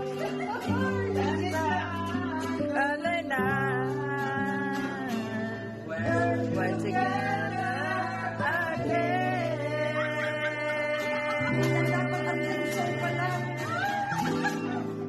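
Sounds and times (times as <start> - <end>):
acoustic guitar chords: 0.0 - 15.0
woman singing: 0.0 - 15.0.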